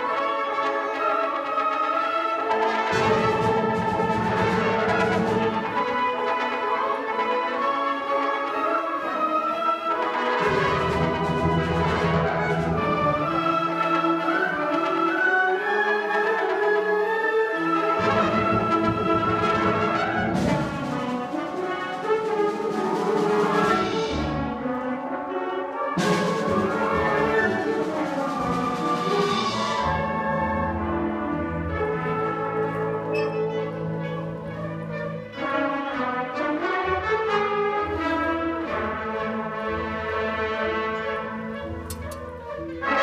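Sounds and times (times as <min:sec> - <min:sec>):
concert band playing: 0:02.0 - 0:07.3, 0:09.9 - 0:15.1, 0:17.9 - 0:43.0.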